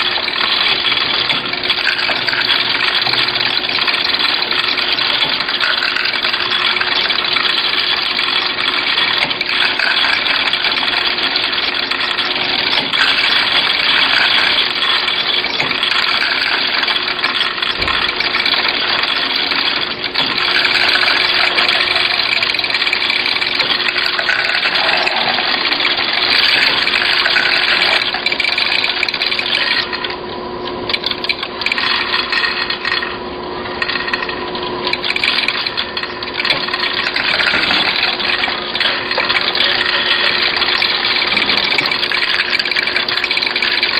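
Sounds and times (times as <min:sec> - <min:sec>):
machine hum: 0:00.0 - 0:43.9.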